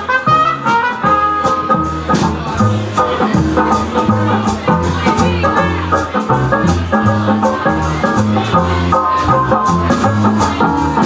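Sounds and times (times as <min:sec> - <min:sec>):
strummed banjolele: 0:00.0 - 0:11.0
swing jazz band playing: 0:00.0 - 0:11.0
walking bass line: 0:00.0 - 0:11.0.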